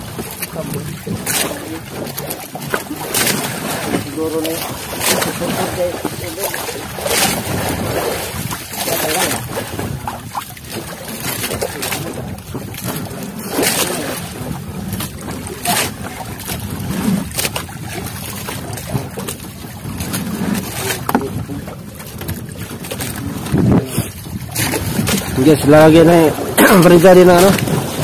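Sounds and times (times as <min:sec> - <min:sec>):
sharp splashes or knocks: 0:00.0 - 0:28.0
water splashing: 0:00.0 - 0:28.0
wind on microphone: 0:00.0 - 0:28.0.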